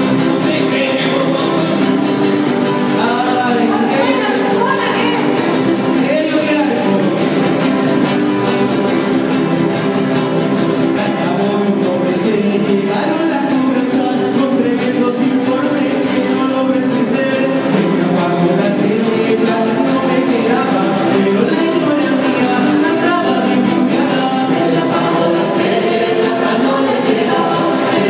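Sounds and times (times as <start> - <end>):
person singing: 0.0 - 8.0, 10.9 - 28.0
strummed guitars: 0.0 - 28.0.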